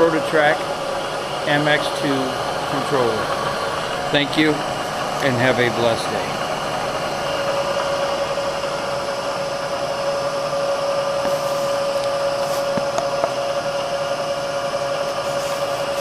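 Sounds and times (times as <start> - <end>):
machinery humming: 0.0 - 16.0
mid-pitched machine whine: 0.0 - 16.0.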